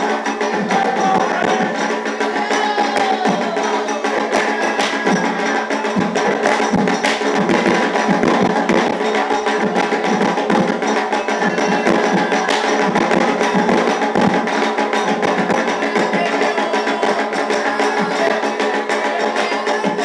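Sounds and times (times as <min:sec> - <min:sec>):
hand drums playing fast rhythm: 0:00.0 - 0:20.0.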